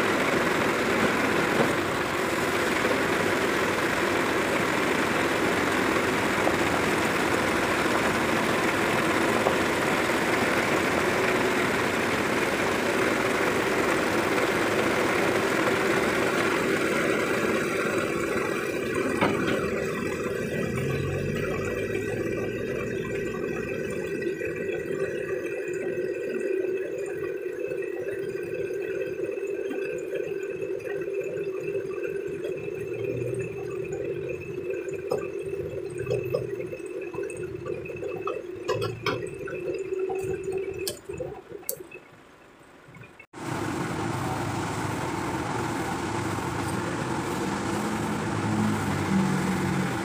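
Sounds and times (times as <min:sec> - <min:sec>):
diesel truck engine running: 0:00.0 - 0:29.3, 0:31.1 - 0:50.0.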